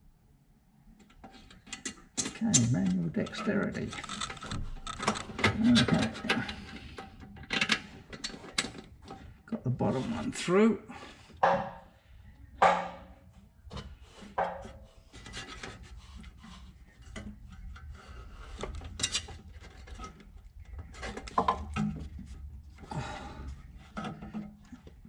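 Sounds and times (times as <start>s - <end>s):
tools rubbing and scraping: 1.1s - 10.5s, 12.6s - 25.0s.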